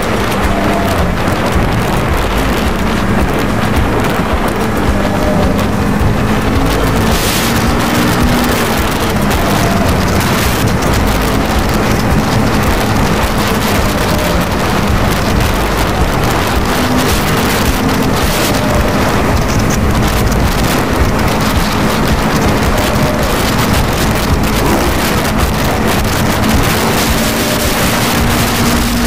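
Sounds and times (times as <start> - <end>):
motorcycle engine hum: 0.0 - 29.0
wind roar on microphone: 0.0 - 29.0.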